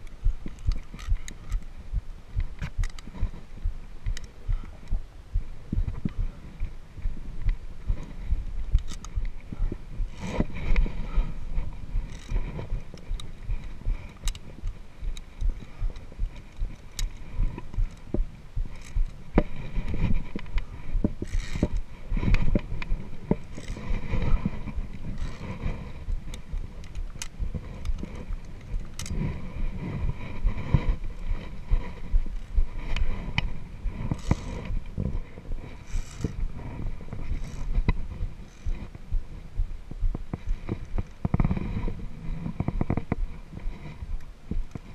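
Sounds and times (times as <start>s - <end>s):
carabiners clicking on steel cable: 0.0s - 5.0s, 7.4s - 39.0s, 40.3s - 44.9s
low rumble of handling noise: 0.0s - 44.9s.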